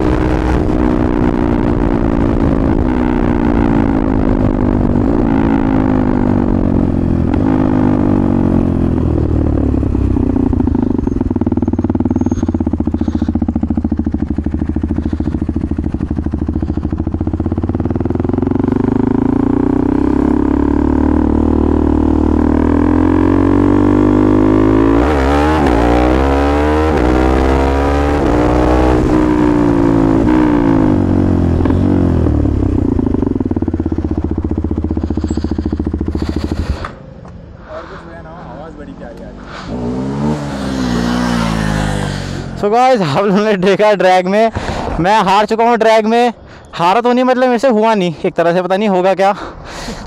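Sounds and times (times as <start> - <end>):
motorcycle engine: 0.0 - 50.0.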